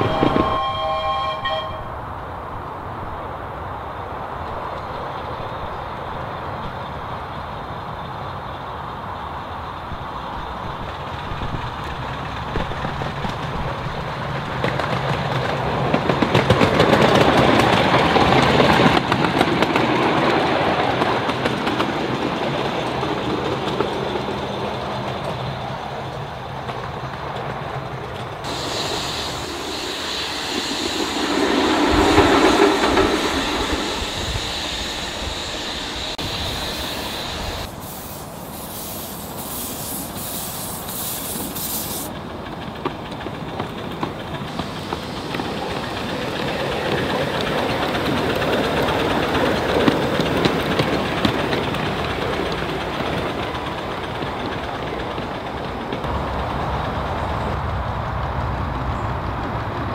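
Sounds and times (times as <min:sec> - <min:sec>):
miniature steam train passing: 0:00.0 - 0:59.9.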